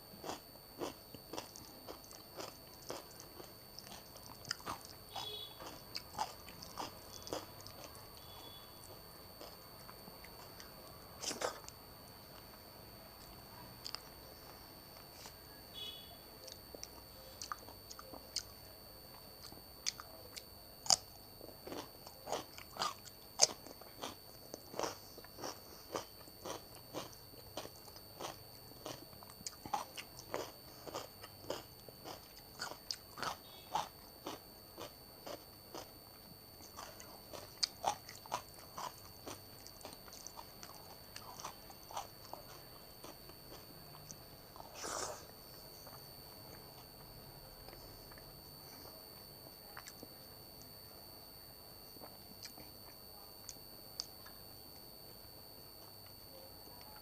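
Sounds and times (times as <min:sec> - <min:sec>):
person chewing: 0:00.1 - 0:11.8, 0:13.2 - 0:15.6, 0:16.4 - 0:50.2, 0:52.0 - 0:54.3.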